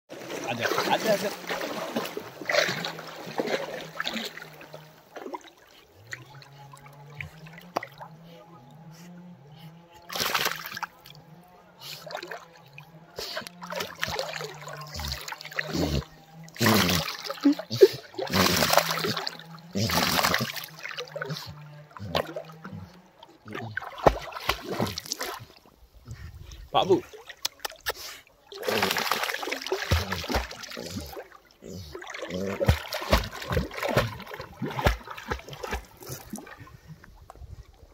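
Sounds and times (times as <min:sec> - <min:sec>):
water splashing: 0:00.1 - 0:09.3, 0:10.0 - 0:26.2, 0:26.8 - 0:37.9.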